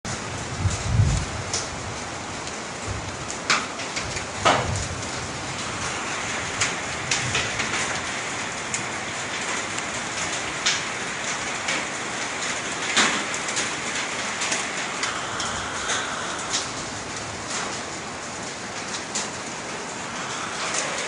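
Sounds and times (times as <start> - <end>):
mud rain pattering: 0.1 - 21.0.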